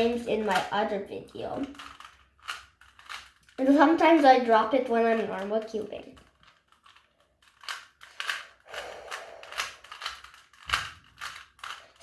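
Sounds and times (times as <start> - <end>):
puzzle cube layers clicking: 0.0 - 12.0.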